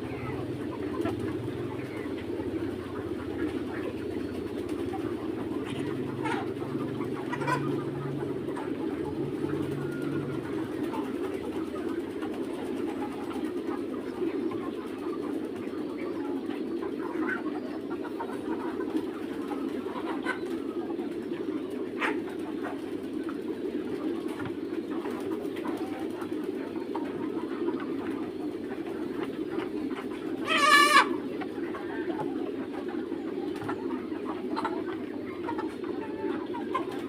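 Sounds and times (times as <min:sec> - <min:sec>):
chicks chirping: 0:00.0 - 0:37.0
chicks cooing murmur: 0:00.0 - 0:37.0.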